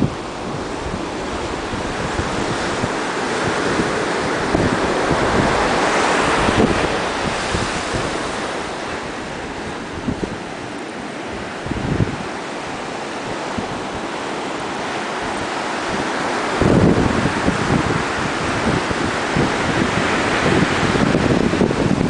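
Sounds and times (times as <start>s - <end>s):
ocean surf breaking: 0.0s - 22.0s
wind buffeting microphone: 0.0s - 22.0s.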